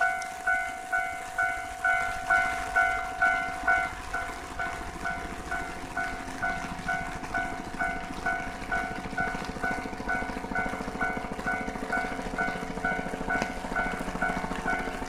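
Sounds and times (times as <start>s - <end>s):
level crossing bell clanging: 0.0s - 15.0s.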